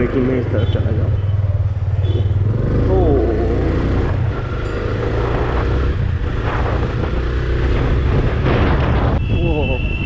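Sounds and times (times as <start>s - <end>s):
motorcycle engine running: 0.0s - 8.7s
road and traffic noise: 0.0s - 10.0s.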